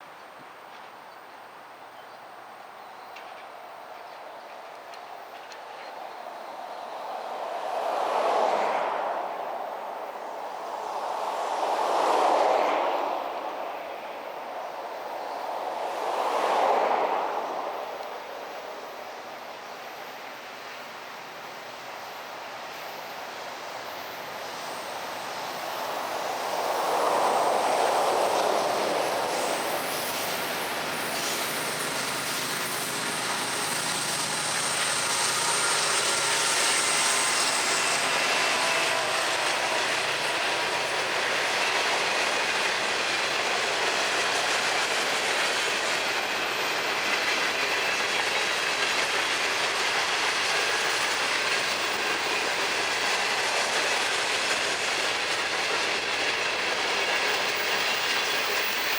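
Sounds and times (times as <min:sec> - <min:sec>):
freight train rumbling: 0:00.0 - 0:58.9.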